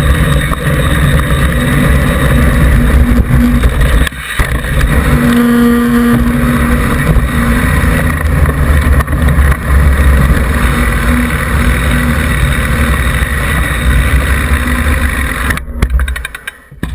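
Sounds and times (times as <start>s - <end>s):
bike tyre rumbling on gravel: 0.0s - 16.9s.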